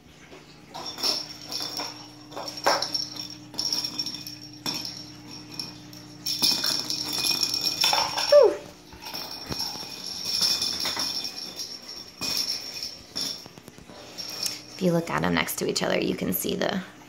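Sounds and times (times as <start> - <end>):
bell toy ball jingling: 0.7 - 15.5.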